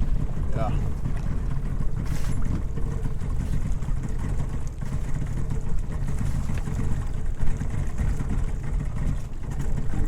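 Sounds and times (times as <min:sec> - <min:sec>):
outboard engine idling: 0:00.0 - 0:10.0.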